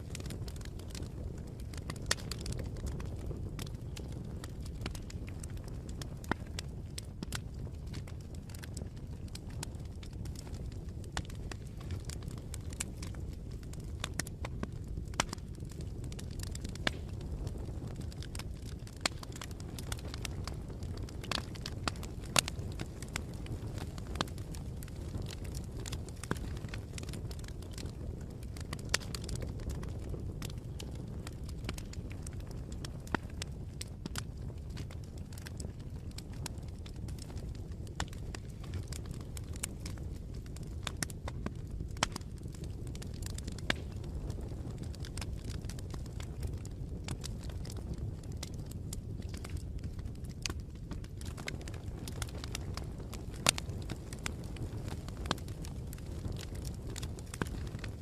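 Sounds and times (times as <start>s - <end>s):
campfire burning and crackling: 0.0s - 58.0s.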